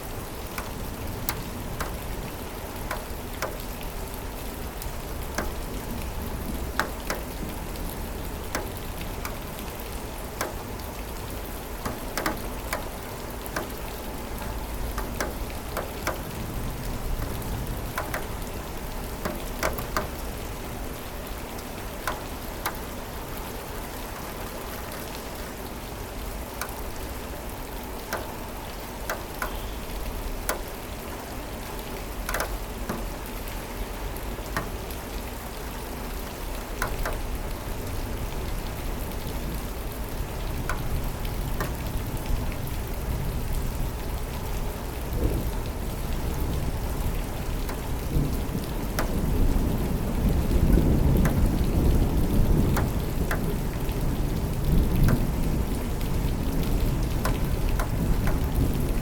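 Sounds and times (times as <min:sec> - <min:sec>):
rain hiss: 0:00.0 - 0:59.0
raindrops ticking: 0:00.0 - 0:59.0.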